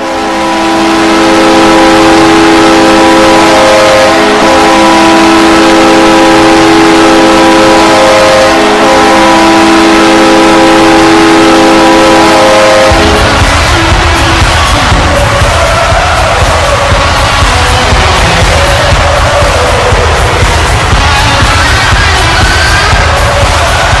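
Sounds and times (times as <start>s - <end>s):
crowd cheering: 0.0s - 24.0s
goal horn blasting: 0.0s - 24.0s.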